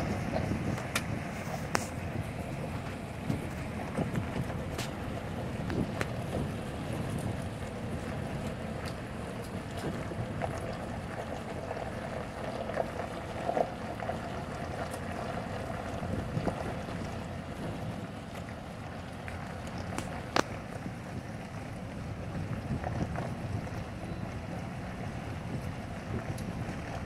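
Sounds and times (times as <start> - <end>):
road and wind noise inside car: 0.0 - 27.0.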